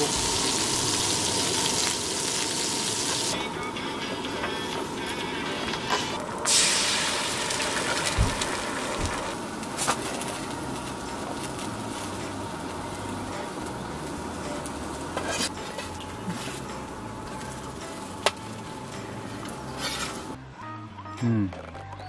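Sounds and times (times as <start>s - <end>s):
eggs sizzling on a griddle: 0.0s - 3.4s, 4.5s - 20.4s.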